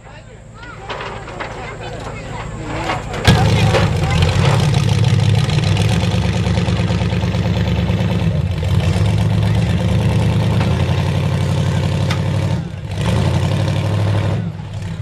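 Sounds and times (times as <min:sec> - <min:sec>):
truck engine running loud: 0:00.0 - 0:15.0.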